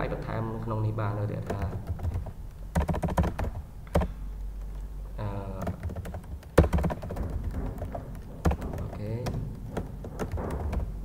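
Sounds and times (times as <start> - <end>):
keyboard typing: 1.3 - 11.0.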